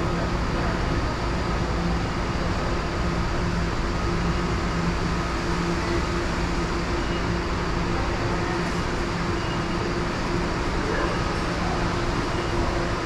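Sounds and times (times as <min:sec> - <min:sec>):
ambient rumble with low hum: 0:00.0 - 0:13.0.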